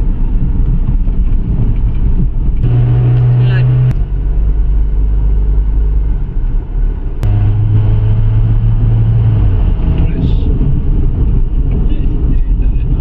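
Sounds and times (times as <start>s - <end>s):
engine and road noise rumble: 0.0s - 13.0s
steady low drone: 2.3s - 12.8s.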